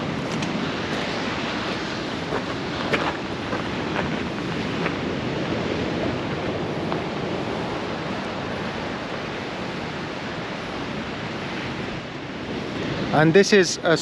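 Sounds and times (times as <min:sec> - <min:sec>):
sea surf breaking: 0:00.0 - 0:14.0.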